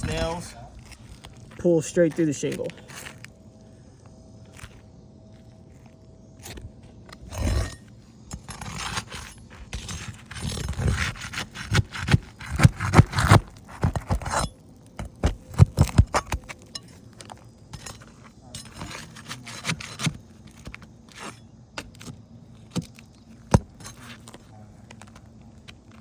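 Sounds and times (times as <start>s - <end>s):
roof shingles scraping and crackling: 0.0s - 3.8s, 6.4s - 26.0s.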